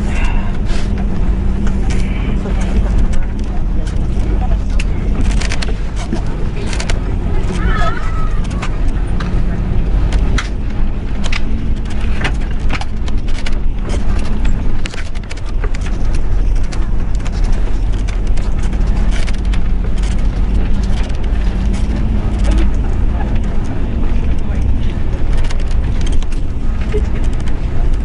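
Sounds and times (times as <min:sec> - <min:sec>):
bus engine and tyres rumbling: 0:00.0 - 0:28.0.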